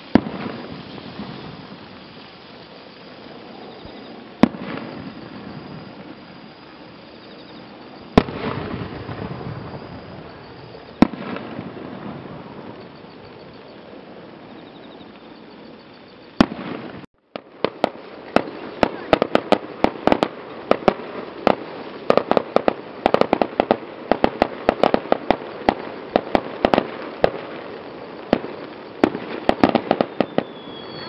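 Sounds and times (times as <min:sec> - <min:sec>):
fireworks bangs and pops: 0:00.0 - 0:13.8, 0:16.4 - 0:31.0
fireworks crackling: 0:00.0 - 0:31.0.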